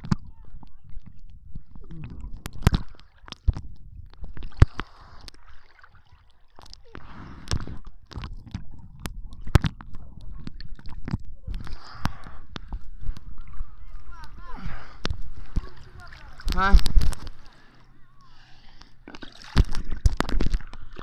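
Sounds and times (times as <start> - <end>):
water sloshing and gurgling: 0.0 - 21.0.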